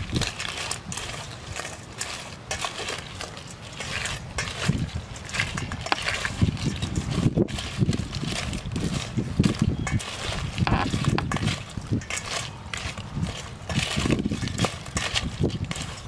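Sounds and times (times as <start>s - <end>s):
crab shells clicking in steel bowl: 0.0s - 16.0s.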